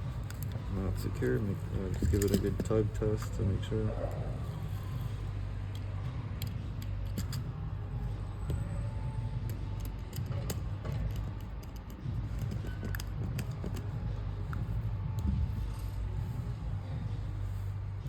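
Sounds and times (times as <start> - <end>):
hand tools clicking and scraping: 0.0 - 3.6, 4.4 - 7.6, 8.5 - 16.4
steady low hum: 0.0 - 18.0.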